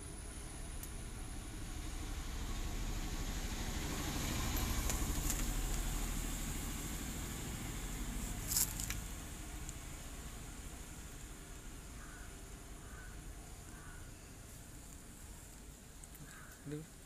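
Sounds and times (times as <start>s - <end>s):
low engine-like rumble: 0.0s - 17.0s.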